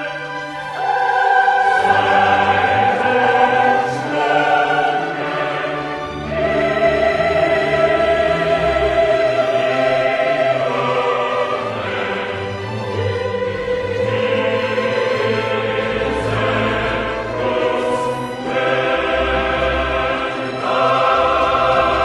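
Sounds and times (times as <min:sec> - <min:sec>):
orchestra playing slow music: 0:00.0 - 0:22.0
voices singing long notes: 0:00.0 - 0:22.0.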